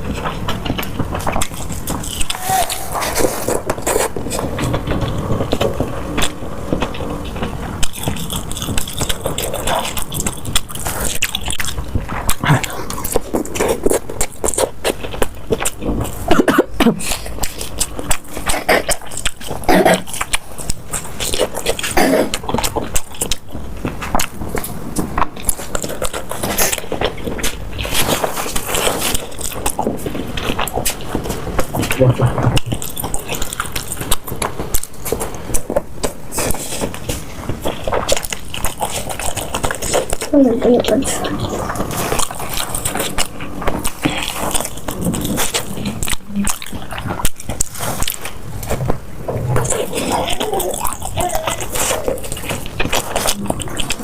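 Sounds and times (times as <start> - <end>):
biting and chewing: 0.0 - 54.0.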